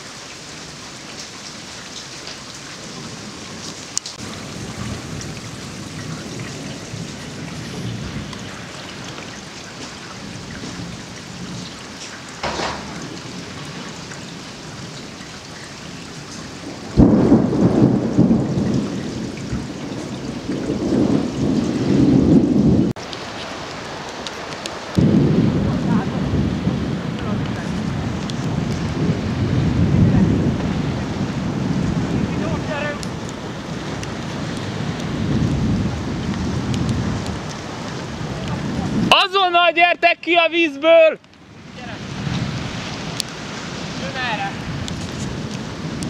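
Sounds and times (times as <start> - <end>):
storm wind buffeting microphone: 2.8 - 40.3, 41.3 - 46.0.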